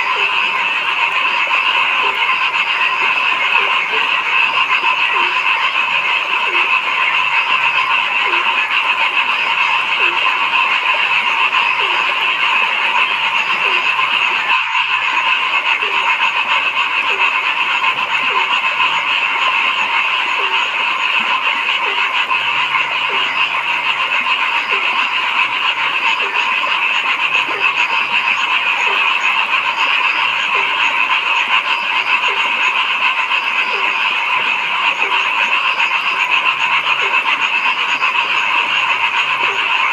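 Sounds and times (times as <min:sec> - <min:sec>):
chorus of frogs: 0:00.0 - 0:39.9
frog repeating low note: 0:00.0 - 0:39.9.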